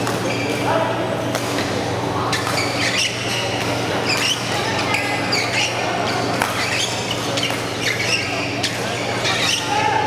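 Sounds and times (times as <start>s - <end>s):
crowd murmur: 0.0s - 10.0s
shoes squeaking on court floor: 0.0s - 10.0s.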